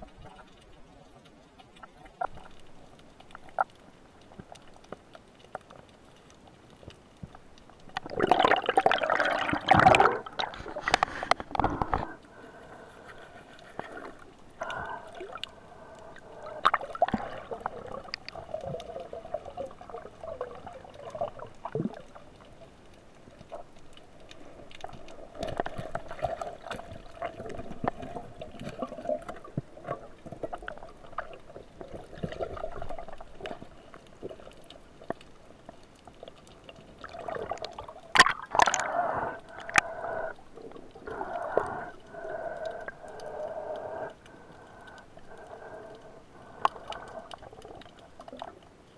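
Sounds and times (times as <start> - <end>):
underwater bubbling: 0.0 - 48.9.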